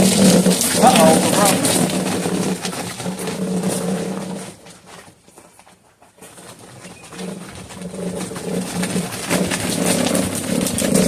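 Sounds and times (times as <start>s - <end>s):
wheel rubbing against mount: 0.0s - 5.2s, 6.2s - 11.0s
generator wheels rolling over ground: 0.0s - 11.0s.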